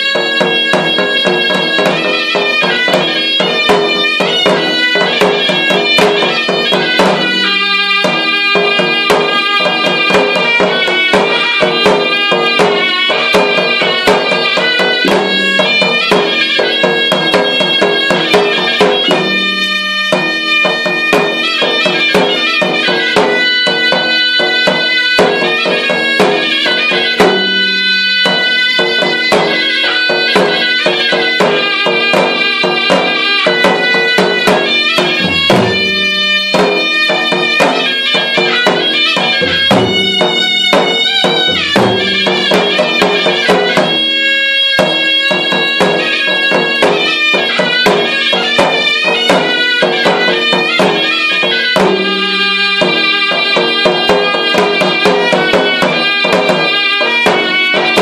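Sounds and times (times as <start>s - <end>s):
double-reed pipe melody: 0.0s - 58.0s
fast barrel drum strokes: 0.0s - 58.0s.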